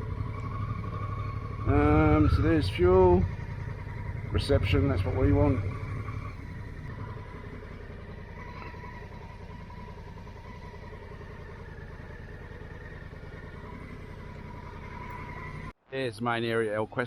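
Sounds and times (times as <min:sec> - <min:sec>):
motorcycle riding at low speed: 0:00.0 - 0:15.8.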